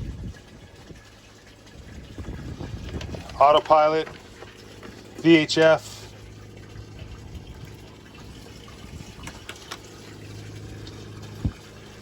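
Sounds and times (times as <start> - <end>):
low hum: 0.3 - 12.0.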